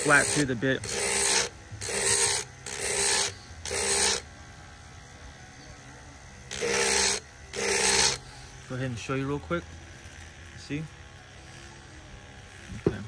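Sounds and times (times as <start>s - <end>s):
rotary tool grinding metal: 0.0s - 13.0s
rotary tool humming: 0.0s - 13.0s.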